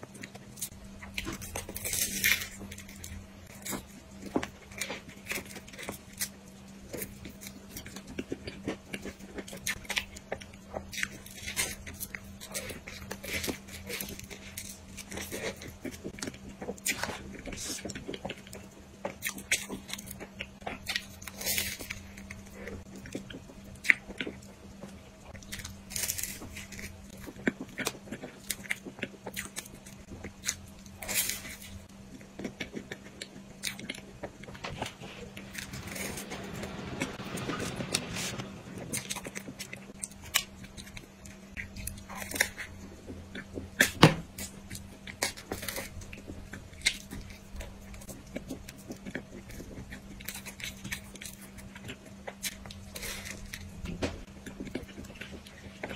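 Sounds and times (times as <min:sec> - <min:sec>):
person chewing pastry: 0:00.0 - 0:55.9.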